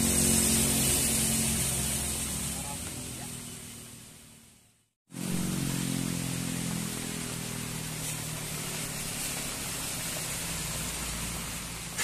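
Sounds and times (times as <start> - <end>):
tyres hissing through water: 0.0 - 12.0.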